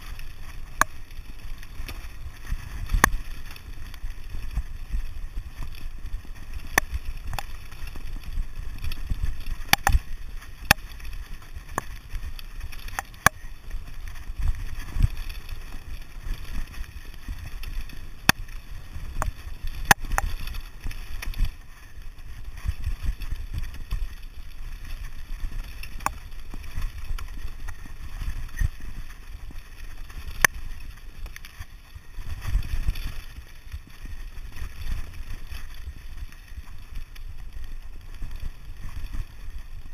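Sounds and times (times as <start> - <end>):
bike clicking and clacking over stones: 0.0 - 39.9
bike tyres rumbling on gravel: 0.0 - 39.9.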